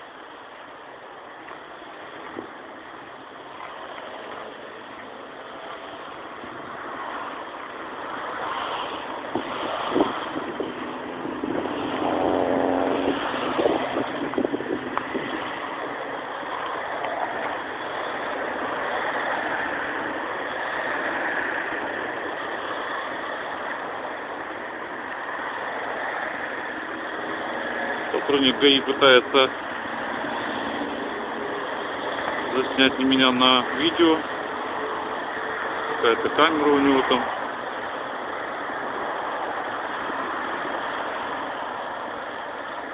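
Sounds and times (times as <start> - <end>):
street traffic: 0.0 - 42.9.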